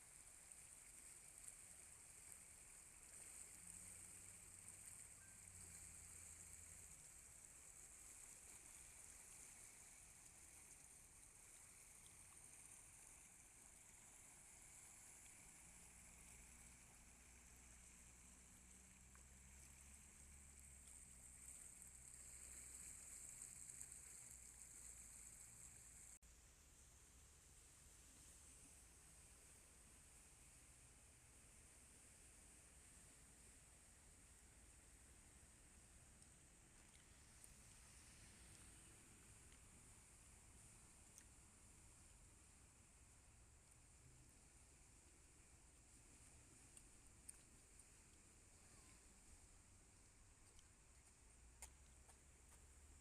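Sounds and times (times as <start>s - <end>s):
faint low hum: 0.0s - 53.0s
steady high hiss: 0.0s - 53.0s.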